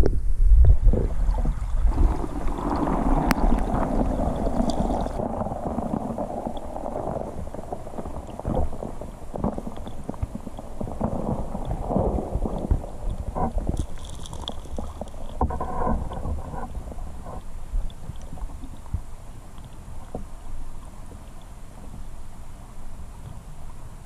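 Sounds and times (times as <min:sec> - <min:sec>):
low rumble: 0:00.0 - 0:23.7
muffled stream water rushing: 0:00.0 - 0:24.0.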